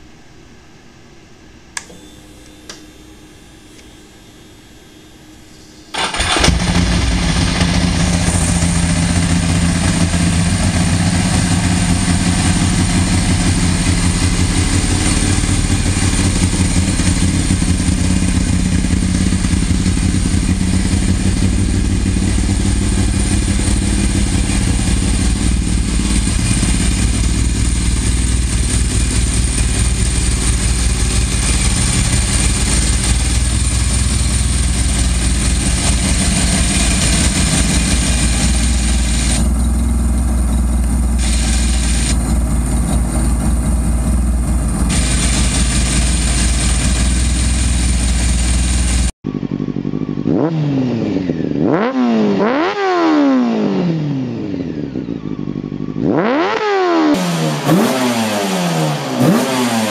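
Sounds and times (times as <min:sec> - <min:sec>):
motorcycle engine running: 0:05.9 - 0:59.9.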